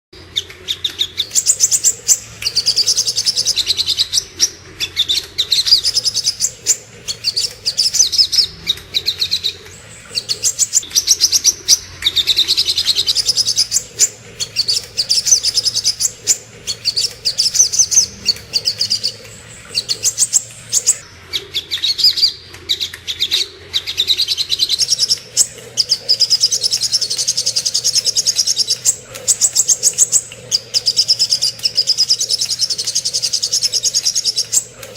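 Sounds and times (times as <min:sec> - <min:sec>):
songbird chirping: 0:00.4 - 0:34.9.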